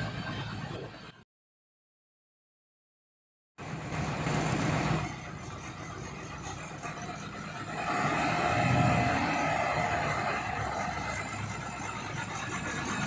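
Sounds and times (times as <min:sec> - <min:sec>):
bus engine running: 0:00.0 - 0:01.2, 0:03.6 - 0:13.0.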